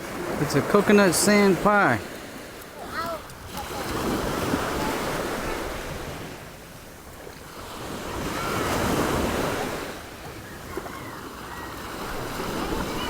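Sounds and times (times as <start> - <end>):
waves breaking on shore: 0.0 - 13.0.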